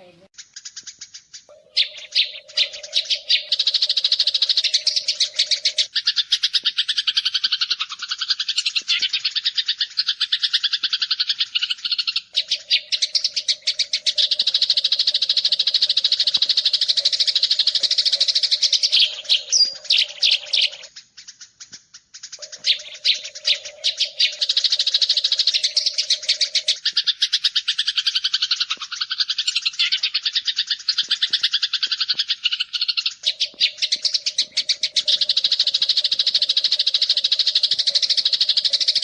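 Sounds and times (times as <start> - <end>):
sparrows chirping: 0.0 - 39.0.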